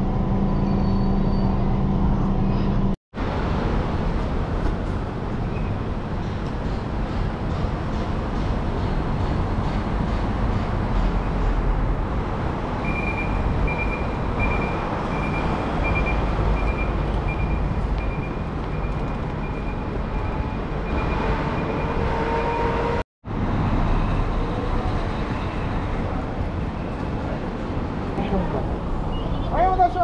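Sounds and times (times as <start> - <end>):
traffic: 0.0 - 30.0.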